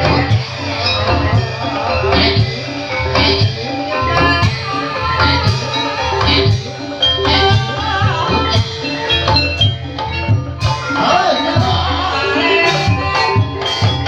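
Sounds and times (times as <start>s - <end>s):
ringing metallophone tones: 0.0s - 14.0s
steady drum beat: 0.0s - 14.0s.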